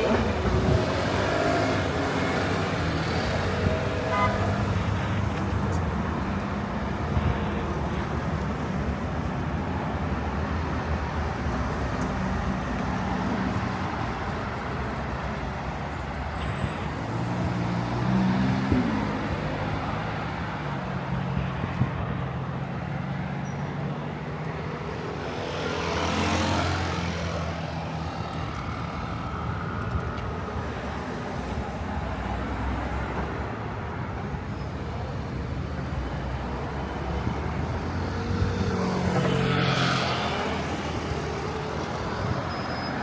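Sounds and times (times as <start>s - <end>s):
traffic engine hum: 0.0s - 43.0s
vehicles passing close: 0.0s - 43.0s.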